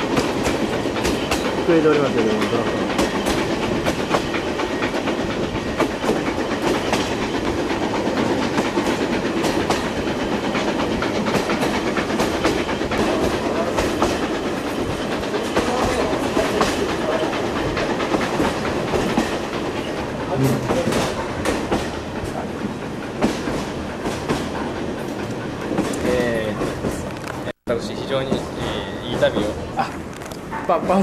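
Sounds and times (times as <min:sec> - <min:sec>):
train wheels clattering over rails: 0:00.0 - 0:31.0.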